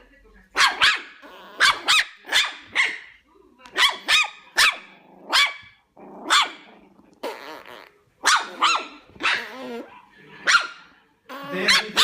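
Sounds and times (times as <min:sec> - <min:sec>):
small dog yapping: 0:00.6 - 0:03.1, 0:03.7 - 0:10.8.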